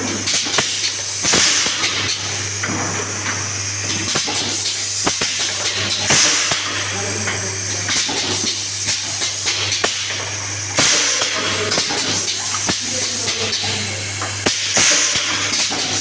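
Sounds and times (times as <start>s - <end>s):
machine motor hum: 0.0s - 16.0s.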